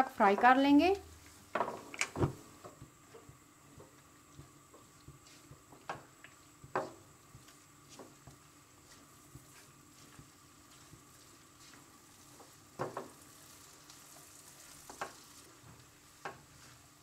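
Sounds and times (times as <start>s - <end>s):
chicken frying with faint sizzle: 0.0s - 17.0s.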